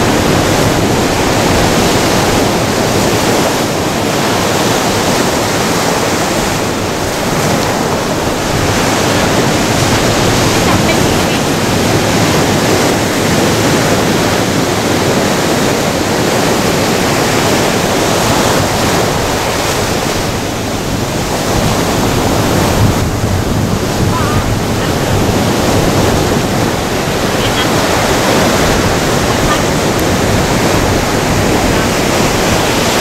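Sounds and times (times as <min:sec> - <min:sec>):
ocean surf breaking: 0:00.0 - 0:33.0.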